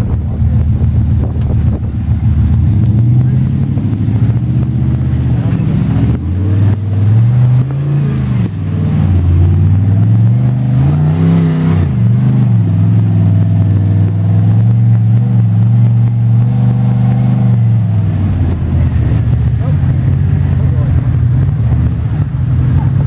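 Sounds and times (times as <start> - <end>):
engine revving: 0.0 - 23.0
engine running under load: 0.0 - 23.0.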